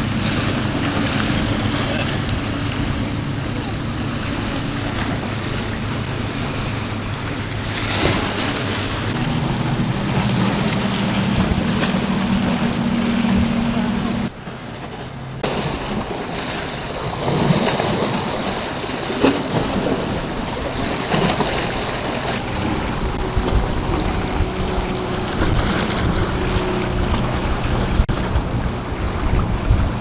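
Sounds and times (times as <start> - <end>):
motorboat engine hum: 0.0 - 30.0
waves splashing against rocks: 0.0 - 30.0
wind buffeting microphone: 0.0 - 30.0.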